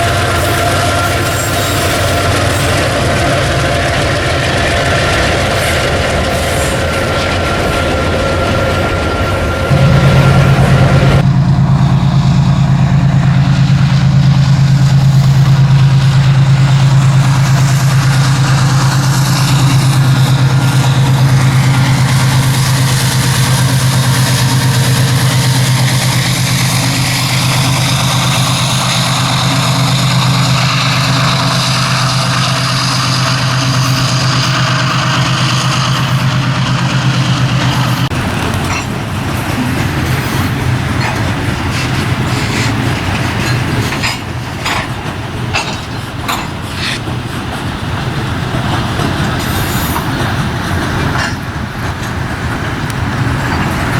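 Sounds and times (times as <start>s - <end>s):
diesel locomotive engine drone: 0.0s - 53.9s.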